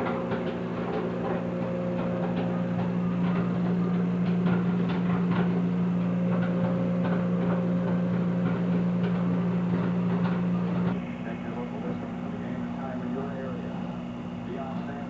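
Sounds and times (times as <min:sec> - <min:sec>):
motor hum: 0:00.0 - 0:15.0.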